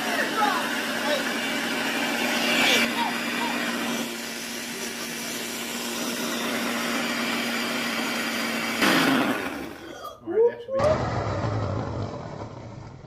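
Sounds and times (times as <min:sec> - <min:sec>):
blender motor humming: 0:00.0 - 0:10.1, 0:10.8 - 0:13.0.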